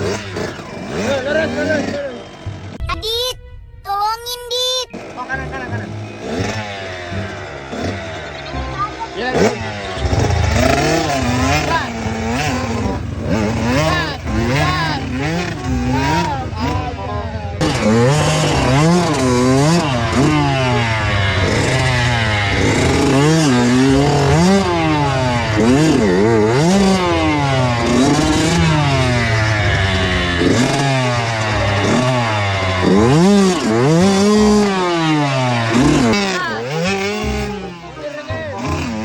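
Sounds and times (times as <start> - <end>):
dirt bike engine revving: 0.0 - 2.9, 4.8 - 39.0.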